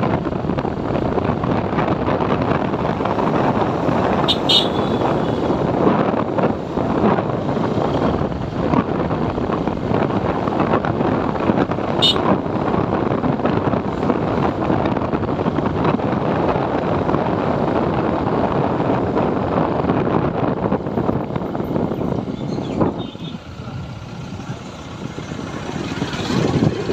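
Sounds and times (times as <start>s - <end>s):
motorcycle engine and road noise: 0.0s - 26.9s
wind rushing over microphone: 0.0s - 26.9s.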